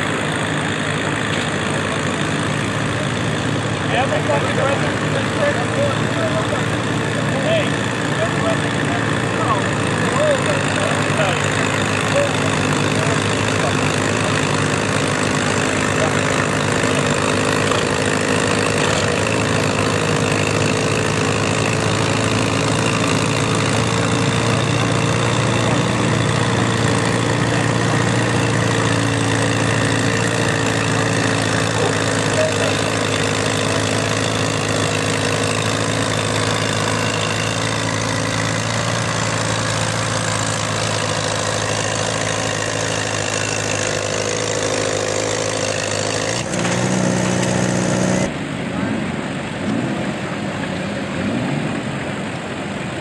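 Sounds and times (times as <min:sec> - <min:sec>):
tractor engine running under load: 0:00.0 - 0:48.6.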